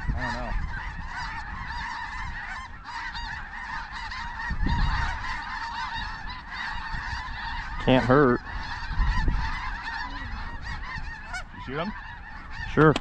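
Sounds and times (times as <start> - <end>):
flock of geese calling: 0.0 - 13.0
wind rumbling on microphone: 0.0 - 13.0.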